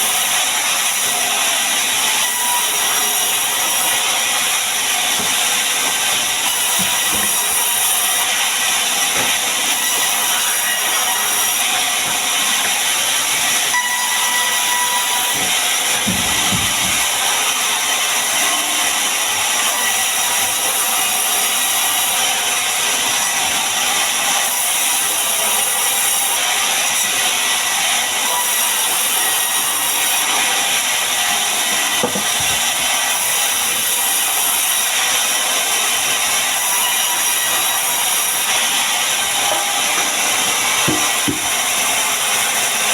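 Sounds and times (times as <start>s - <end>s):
power tool working wood: 0.0s - 42.9s.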